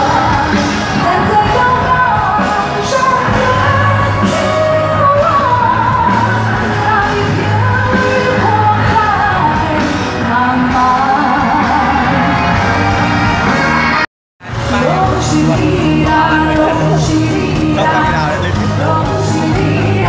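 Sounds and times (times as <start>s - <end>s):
pop song with singer and band: 0.0s - 20.0s.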